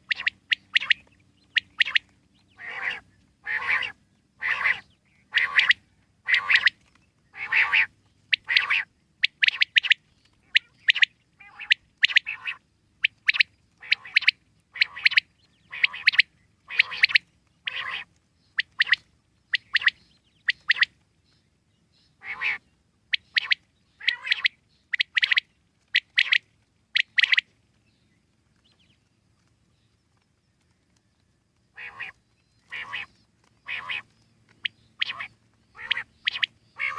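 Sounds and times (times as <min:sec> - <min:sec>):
quail calling: 0:00.0 - 0:21.0, 0:22.2 - 0:27.5, 0:31.7 - 0:36.9.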